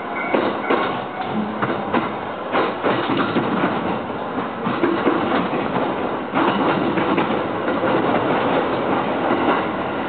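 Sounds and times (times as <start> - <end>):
train rumbling: 0.0 - 10.0
wheel clacks over rail joints: 0.2 - 9.7.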